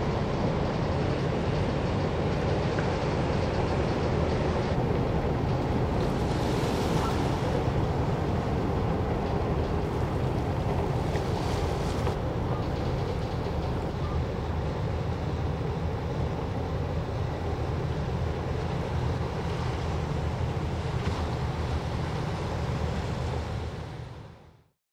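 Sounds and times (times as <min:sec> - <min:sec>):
water washing along hull: 0:00.0 - 0:24.5
ship diesel engine drone: 0:00.0 - 0:24.6.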